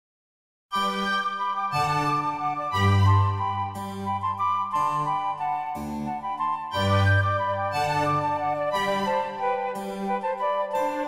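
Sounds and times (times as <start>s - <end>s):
slow instrumental music: 0.7s - 11.0s.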